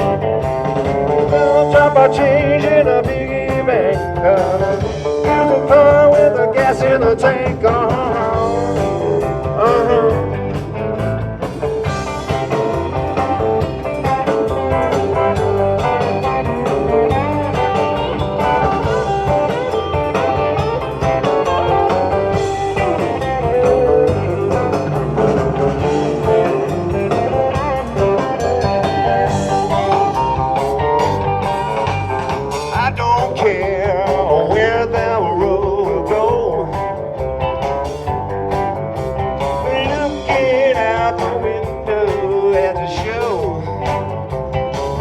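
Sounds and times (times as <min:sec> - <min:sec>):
bass guitar: 0:00.0 - 0:45.0
drums: 0:00.0 - 0:45.0
electric guitar bending notes: 0:00.0 - 0:45.0.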